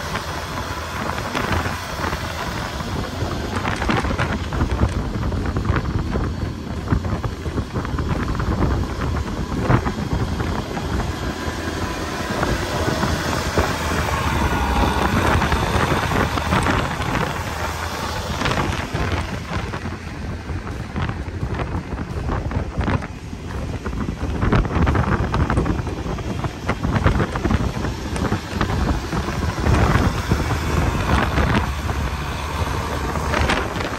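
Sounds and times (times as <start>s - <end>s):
blizzard wind buffeting microphone: 0.0s - 33.9s.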